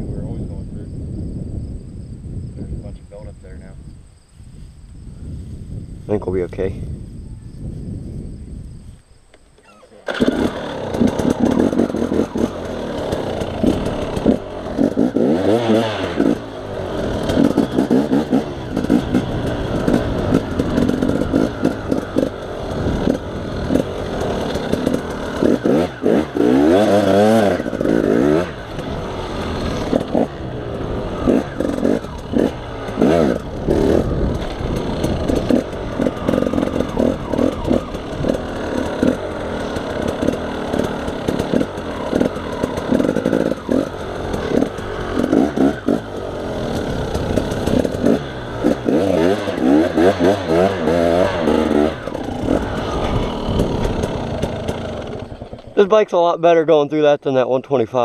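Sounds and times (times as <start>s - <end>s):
dirt bike engine revving: 9.6s - 56.6s.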